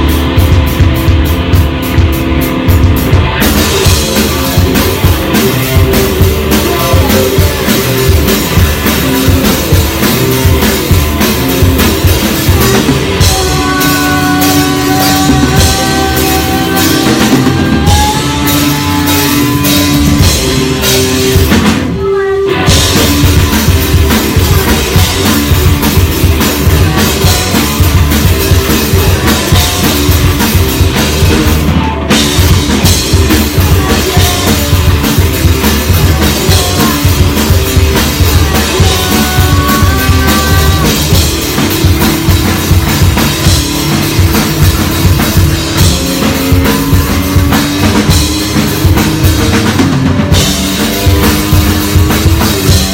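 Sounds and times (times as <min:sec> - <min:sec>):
drum kit: 0:00.0 - 0:52.9
rock band playing live: 0:00.0 - 0:52.9.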